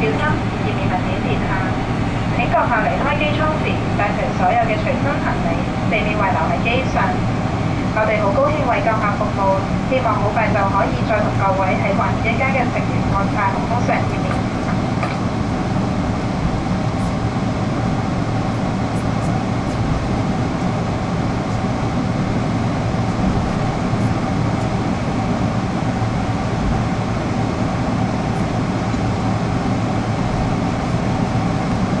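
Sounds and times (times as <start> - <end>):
aircraft cabin rumble and hiss: 0.0 - 32.0
faint steady hum: 0.0 - 32.0.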